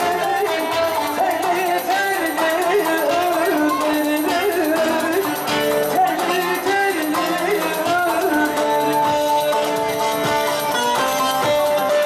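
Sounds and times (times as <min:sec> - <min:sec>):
ornamented singing voice: 0:00.0 - 0:10.2
long-necked lute playing: 0:00.0 - 0:12.0.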